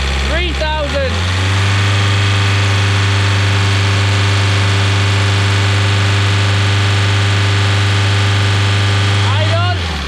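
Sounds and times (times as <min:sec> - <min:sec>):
diesel engine running steady: 0:00.0 - 0:10.0.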